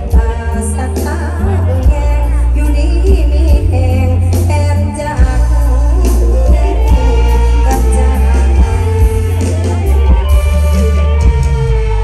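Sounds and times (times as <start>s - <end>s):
electric guitar: 0.0s - 12.0s
heavy bass: 0.0s - 12.0s
person singing: 0.0s - 12.0s.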